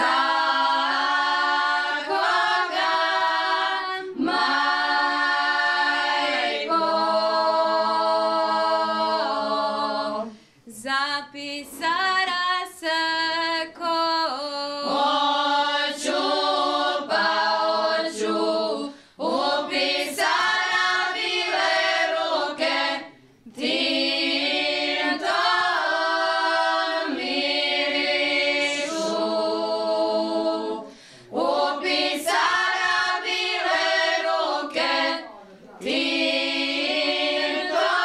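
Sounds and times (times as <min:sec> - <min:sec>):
women singing unaccompanied: 0:00.0 - 0:38.0.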